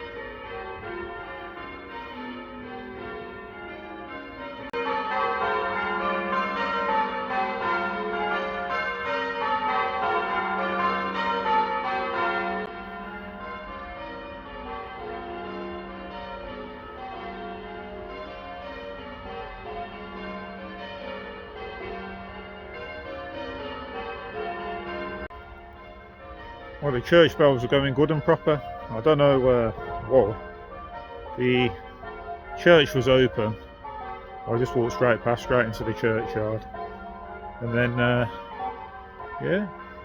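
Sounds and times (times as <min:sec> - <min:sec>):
church bells pealing: 0:00.0 - 0:40.0.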